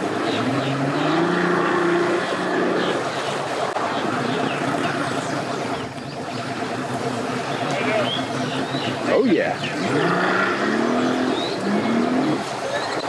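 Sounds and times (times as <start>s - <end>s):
outboard motor revving: 0.0s - 13.0s
propeller churning water: 0.0s - 13.0s.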